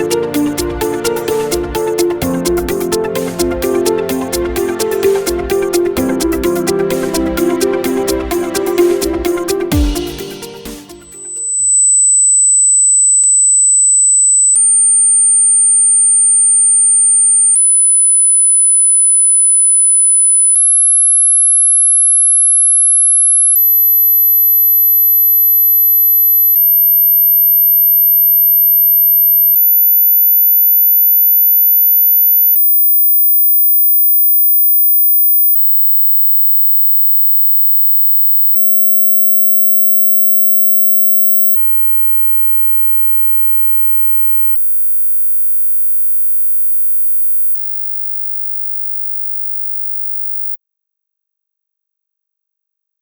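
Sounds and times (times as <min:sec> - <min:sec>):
high pure test tones: 0:00.0 - 0:17.6, 0:23.4 - 0:50.6.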